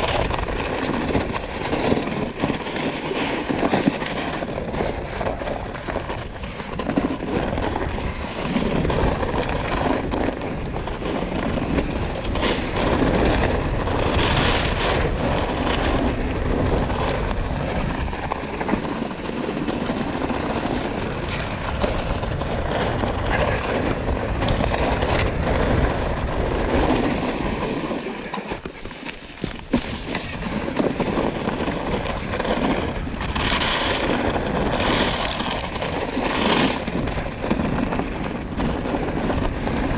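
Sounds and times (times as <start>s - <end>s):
tyres rolling over dirt: 0.0s - 39.9s
wind buffeting microphone: 0.0s - 39.9s.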